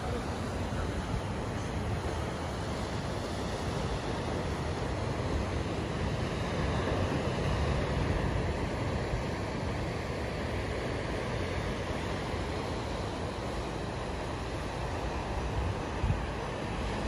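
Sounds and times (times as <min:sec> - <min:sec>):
ocean surf breaking over rocks: 0:00.0 - 0:17.0
wind rumbling on microphone: 0:00.0 - 0:17.0.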